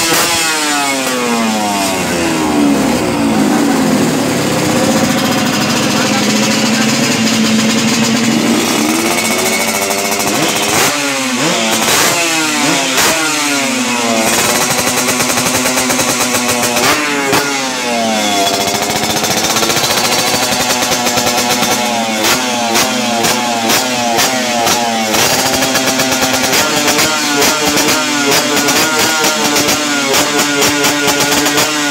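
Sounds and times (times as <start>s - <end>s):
two-stroke motorcycle engine running: 0.0s - 31.9s.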